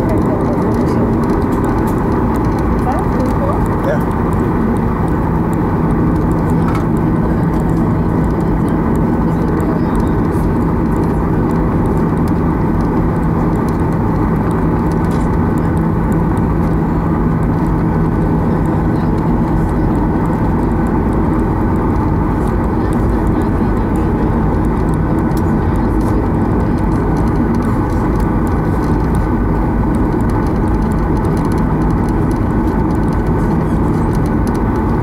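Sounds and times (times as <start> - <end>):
airplane cabin engine hum: 0.0 - 35.0.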